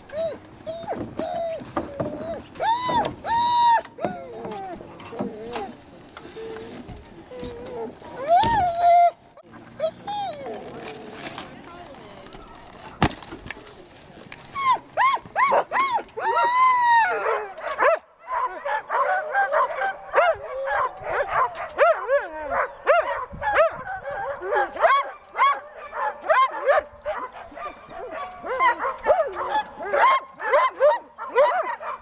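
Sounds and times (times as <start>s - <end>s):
sled dogs yapping and barking: 0.0s - 32.0s.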